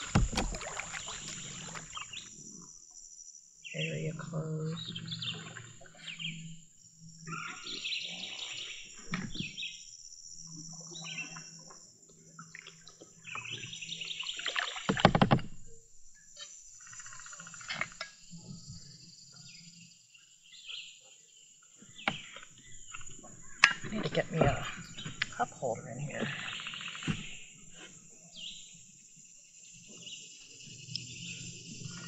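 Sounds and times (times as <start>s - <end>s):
birds calling and trilling: 0.0s - 2.7s, 3.6s - 15.4s, 16.2s - 28.9s, 29.5s - 32.0s
high insect drone: 0.0s - 32.0s.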